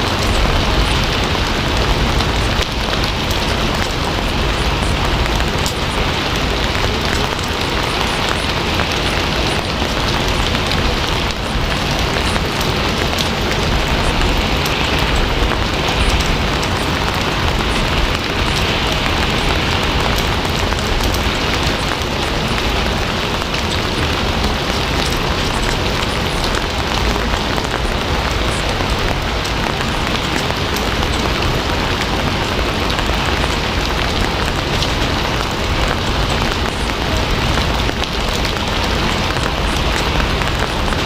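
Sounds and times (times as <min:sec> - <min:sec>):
faint raindrop ticks: 0:00.0 - 0:41.0
rain hiss: 0:00.0 - 0:41.0.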